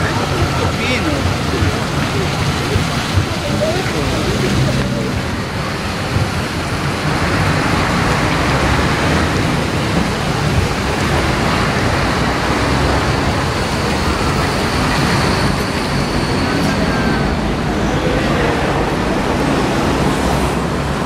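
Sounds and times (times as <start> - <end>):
city traffic noise: 0.0 - 21.0
tram rolling on tracks: 0.0 - 21.0.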